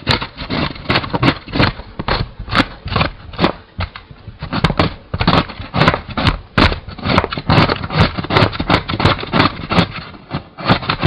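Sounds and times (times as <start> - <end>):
cucumber grated on metal grater: 0.0 - 11.0.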